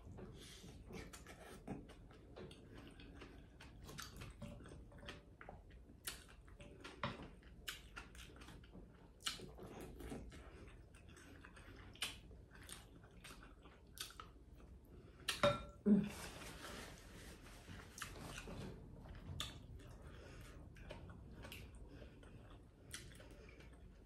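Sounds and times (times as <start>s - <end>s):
chewing and wet mouth sounds: 0.0s - 15.8s, 16.7s - 24.0s.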